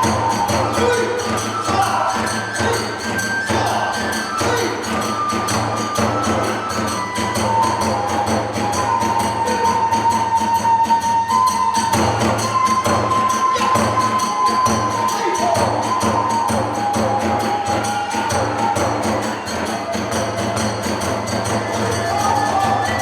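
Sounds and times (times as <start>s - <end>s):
bamboo flute melody: 0.0s - 23.0s
small hand cymbals: 0.0s - 23.0s.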